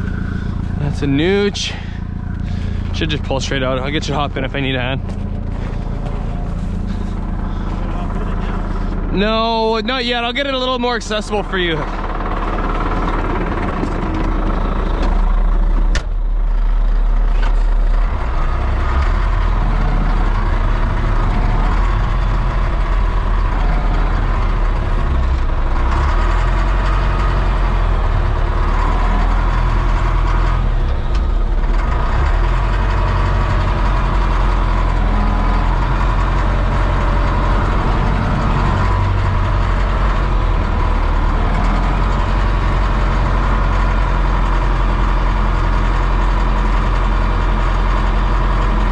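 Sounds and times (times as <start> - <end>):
vehicle engine rumbling: 0.0 - 48.9.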